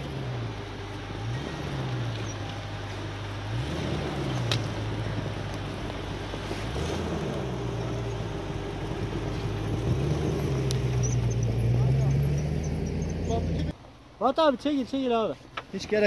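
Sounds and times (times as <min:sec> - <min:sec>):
vehicle engine revving: 0:00.0 - 0:13.8.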